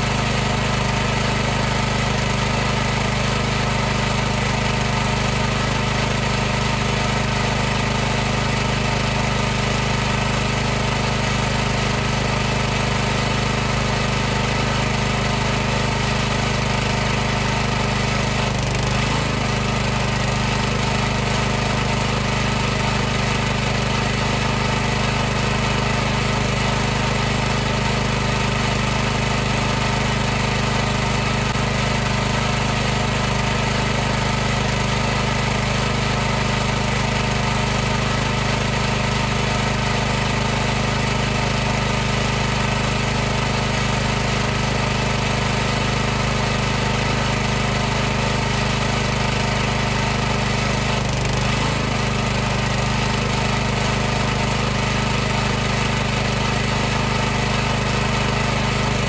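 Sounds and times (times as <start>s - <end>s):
pressure washer pump humming: 0.0s - 59.0s.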